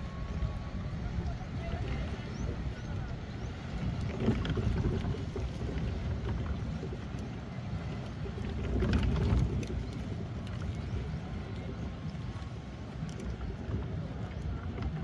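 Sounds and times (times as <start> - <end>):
water sounds: 0.0 - 15.0
wind rumble on microphone: 0.0 - 15.0.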